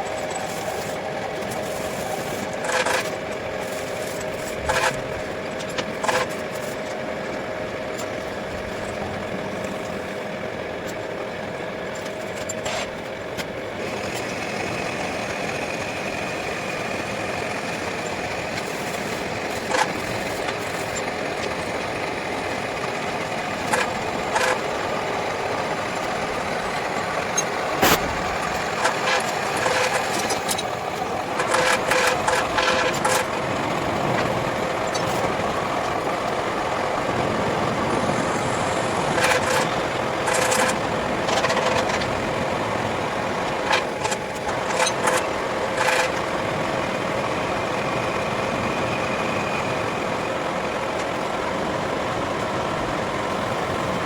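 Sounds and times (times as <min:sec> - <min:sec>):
motor running steadily: 0:00.0 - 0:54.0.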